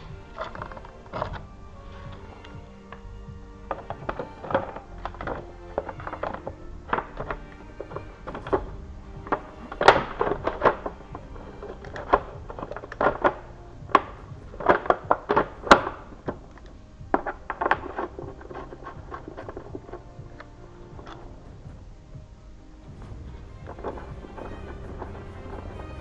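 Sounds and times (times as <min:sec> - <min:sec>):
metal parts knocking: 0:00.0 - 0:21.9.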